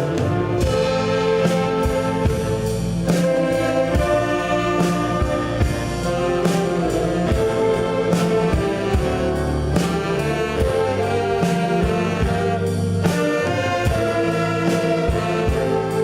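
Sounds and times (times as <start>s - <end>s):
saxophone ensemble playing slow tune: 0.0s - 16.0s.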